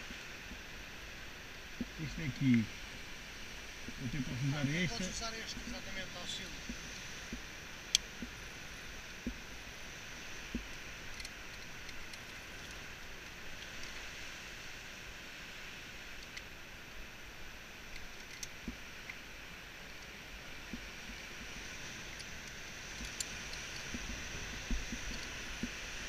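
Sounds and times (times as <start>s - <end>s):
steady rushing background noise: 0.0s - 26.0s.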